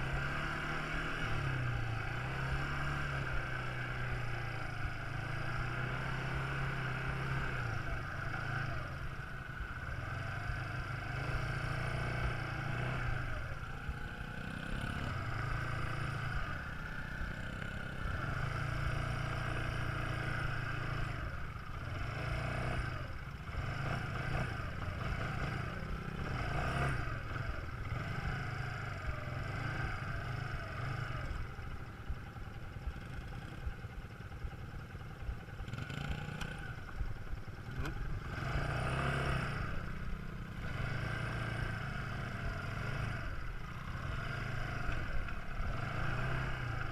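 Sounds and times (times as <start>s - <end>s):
quad bike engine revving: 0.0s - 46.9s.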